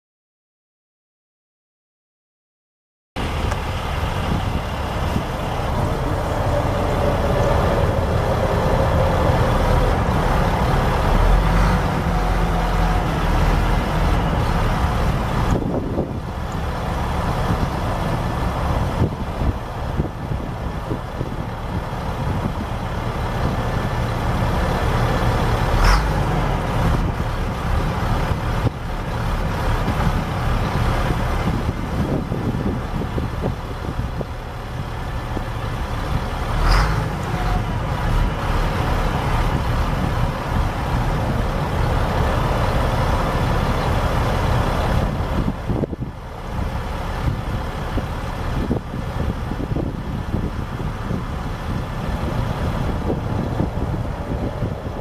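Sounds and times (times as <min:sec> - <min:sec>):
diesel truck engine idling: 0:03.2 - 0:55.0.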